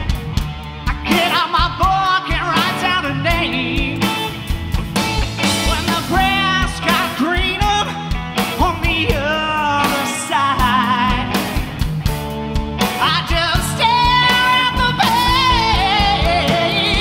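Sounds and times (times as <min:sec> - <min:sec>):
bass guitar: 0:00.0 - 0:17.0
drums: 0:00.0 - 0:17.0
electric guitars: 0:00.0 - 0:17.0
man singing: 0:00.8 - 0:04.4, 0:05.4 - 0:11.8, 0:12.8 - 0:17.0.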